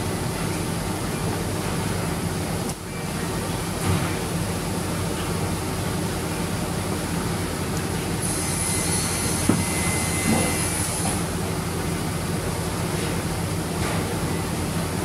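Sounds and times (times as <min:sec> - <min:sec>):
workshop machinery hum: 0:00.0 - 0:15.0.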